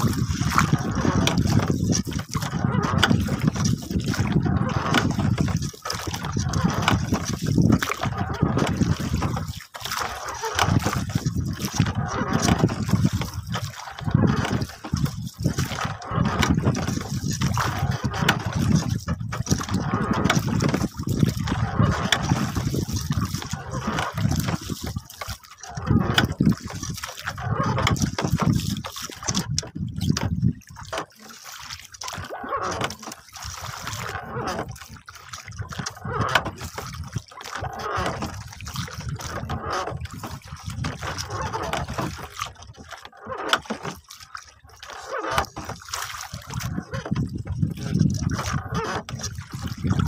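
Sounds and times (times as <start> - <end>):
water splashing against boat hull: 0.0 - 50.0.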